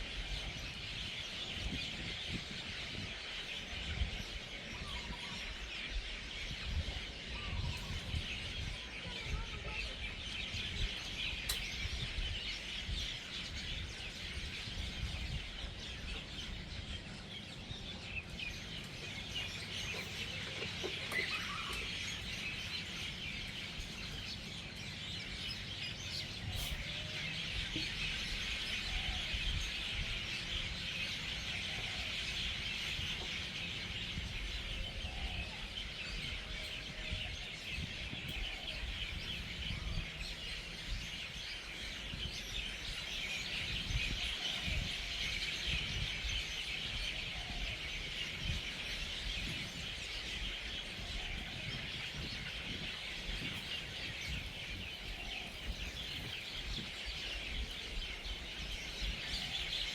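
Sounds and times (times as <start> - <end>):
flock of birds chattering: 0.0 - 59.9.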